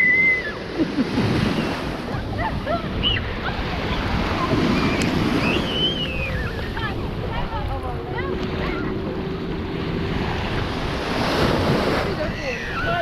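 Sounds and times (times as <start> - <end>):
waves washing on a beach: 0.0 - 13.0
wind buffeting microphone: 0.6 - 13.0.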